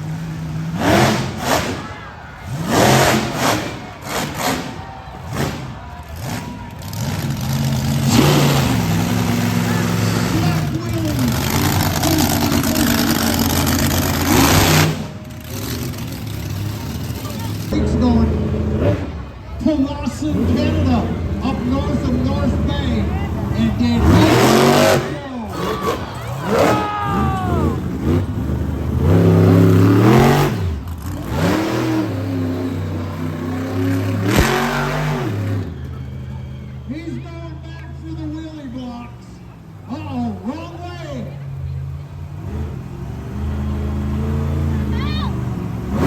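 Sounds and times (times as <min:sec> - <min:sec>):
truck engine revving hard: 0:00.0 - 0:46.0.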